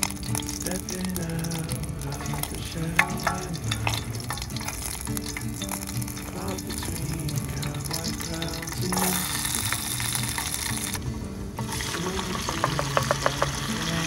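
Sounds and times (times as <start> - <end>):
utensil stirring clicks: 0.0 - 11.0, 12.0 - 13.6
food sizzling in oil: 0.0 - 14.0.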